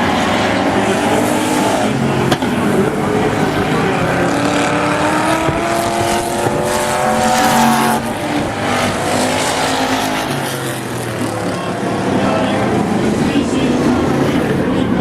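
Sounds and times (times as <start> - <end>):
race engines passing: 0.0 - 15.0.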